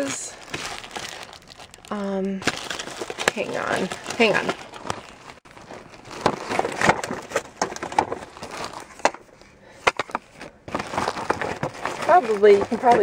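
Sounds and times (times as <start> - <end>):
plastic bag crinkling: 0.0 - 9.4, 10.6 - 13.0.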